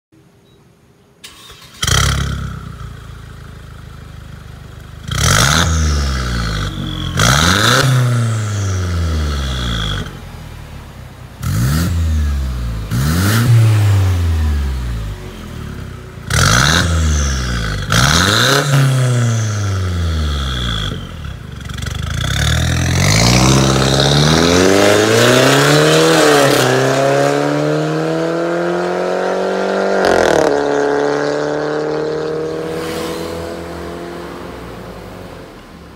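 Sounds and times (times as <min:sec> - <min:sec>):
car engine revving: 0:01.3 - 0:35.9.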